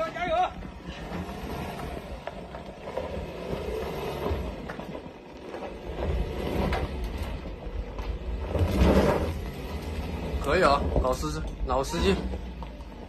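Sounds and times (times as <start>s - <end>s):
diesel engine working under load: 0.0s - 13.0s
engine knocks: 0.0s - 13.0s.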